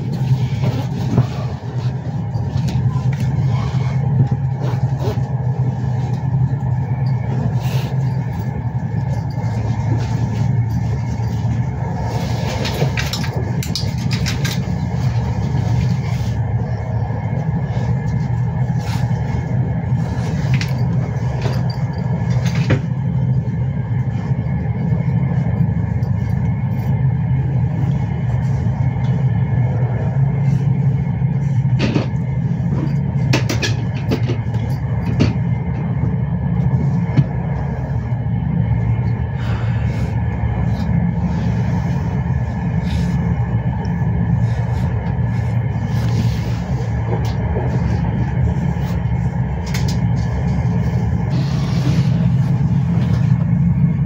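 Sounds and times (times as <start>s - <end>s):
train rumbling on track: 0.0s - 54.0s.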